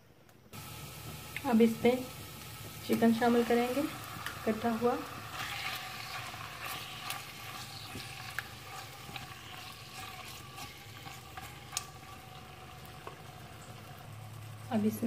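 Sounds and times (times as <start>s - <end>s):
chicken sizzling in a pan: 0.6s - 15.0s.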